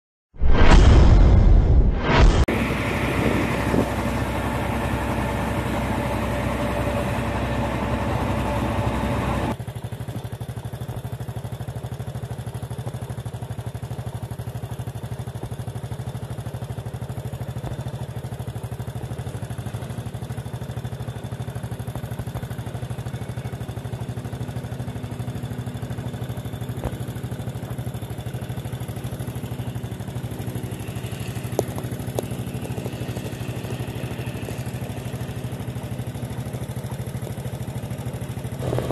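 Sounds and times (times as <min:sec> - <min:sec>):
diesel engine of combine harvester: 0:02.1 - 0:38.9.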